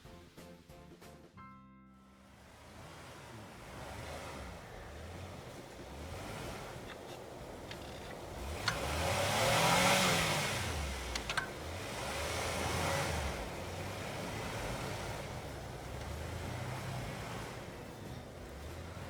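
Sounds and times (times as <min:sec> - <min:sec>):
car engine revving: 0:02.2 - 0:19.0.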